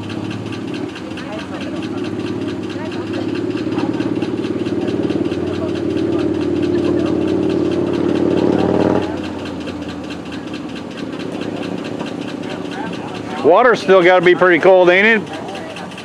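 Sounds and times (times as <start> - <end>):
truck engine running under load: 0.0 - 16.0.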